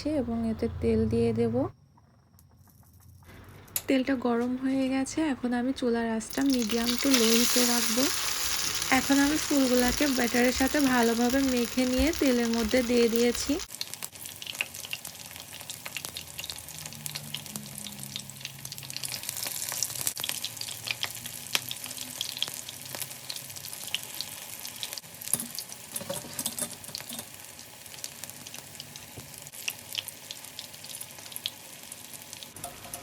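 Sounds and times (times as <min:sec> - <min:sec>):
fritters frying in hot oil: 0:06.3 - 0:33.0.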